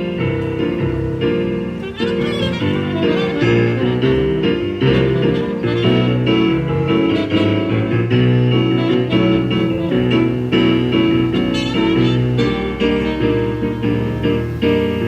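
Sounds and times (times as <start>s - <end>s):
keyboard sustained chords: 0.0s - 15.0s.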